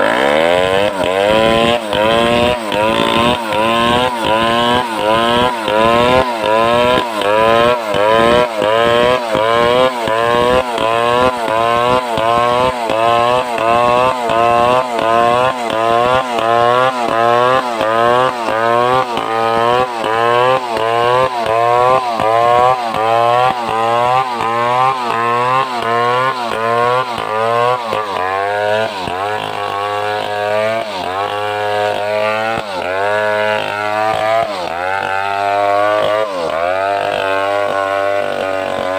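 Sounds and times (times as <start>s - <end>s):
chainsaw cutting under load: 0.0s - 38.9s.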